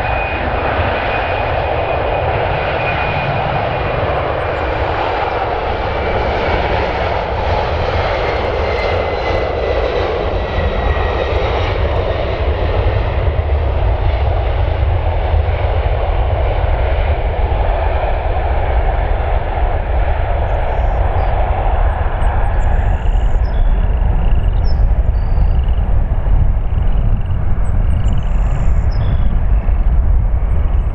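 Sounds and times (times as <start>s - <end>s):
jet engines at takeoff: 0.0s - 30.9s.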